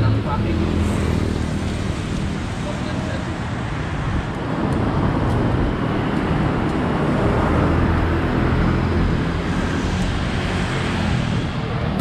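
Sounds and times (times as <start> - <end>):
car engines: 0.0 - 12.0
motorbike engines: 0.0 - 12.0.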